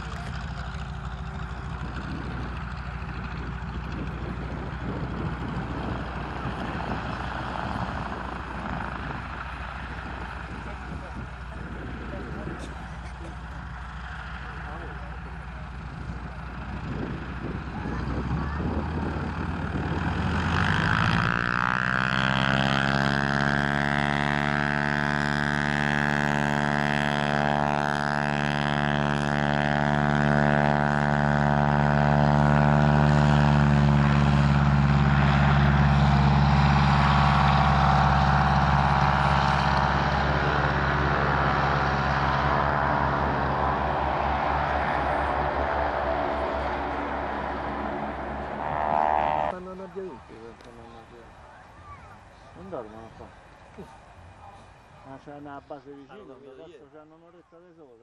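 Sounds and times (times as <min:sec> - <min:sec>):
propeller plane engine at takeoff: 0:00.0 - 0:57.9.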